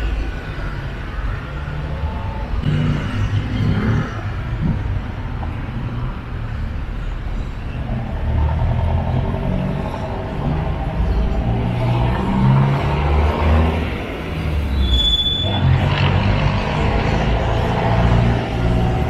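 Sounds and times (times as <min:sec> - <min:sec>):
car engines passing: 0:00.0 - 0:19.0.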